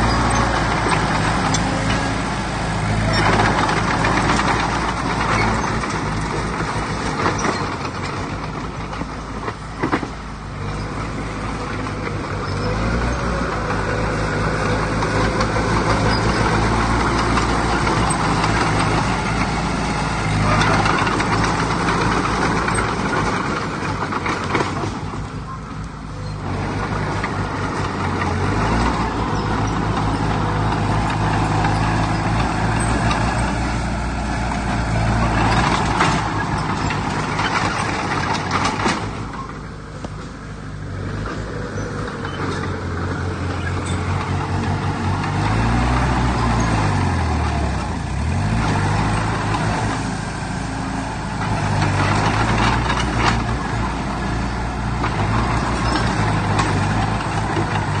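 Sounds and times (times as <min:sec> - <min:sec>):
clattering grinding noise: 0:00.0 - 0:58.0
heavy diesel machinery engine drone: 0:00.0 - 0:58.0.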